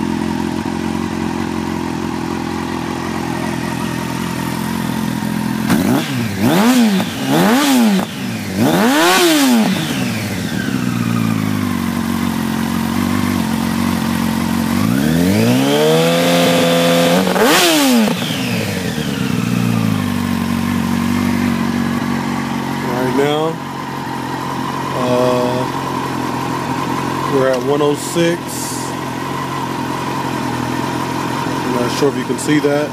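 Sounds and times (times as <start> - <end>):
motorcycle engine revving and idling: 0.0 - 32.9.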